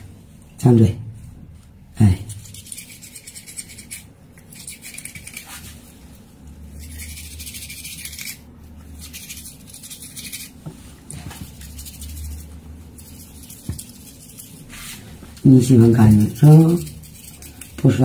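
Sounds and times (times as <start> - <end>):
low steady hum: 0.0 - 18.0
fingers rubbing cat's teeth: 2.2 - 5.9, 6.7 - 18.0.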